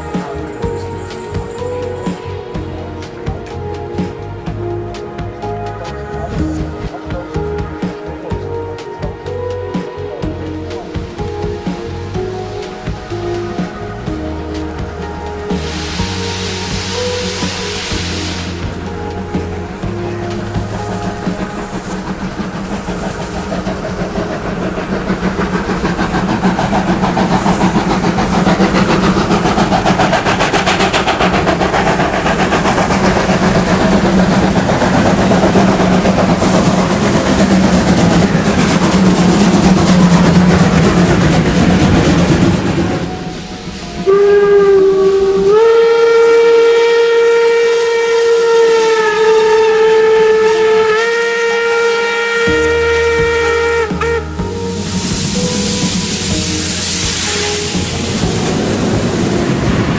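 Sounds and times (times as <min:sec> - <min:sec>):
long steam whistle blast: 0:00.0 - 0:59.9
rail noise: 0:00.0 - 0:59.9
steam locomotive exhaust beats: 0:00.0 - 0:59.9.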